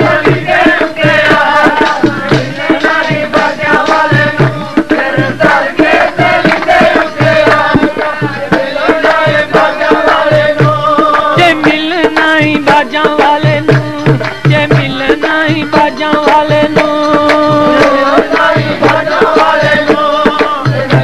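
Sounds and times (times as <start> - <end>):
tabla beat: 0.0 - 21.0
voices singing held notes: 0.0 - 21.0.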